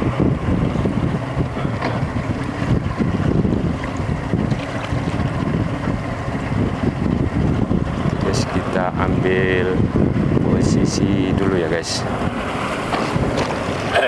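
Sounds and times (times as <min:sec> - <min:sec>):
sea water sloshing: 0:00.0 - 0:14.0
wind buffeting microphone: 0:00.0 - 0:14.0.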